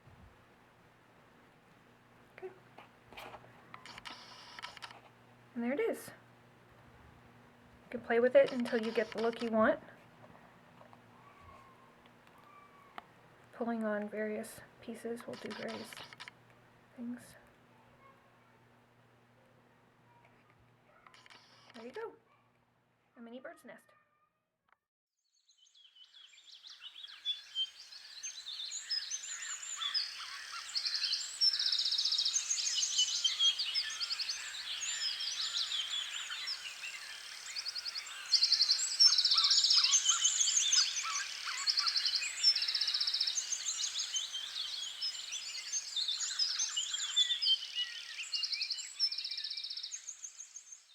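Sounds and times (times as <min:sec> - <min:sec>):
songbirds chirping and trilling: 0:00.4 - 0:22.6, 0:25.4 - 0:50.9.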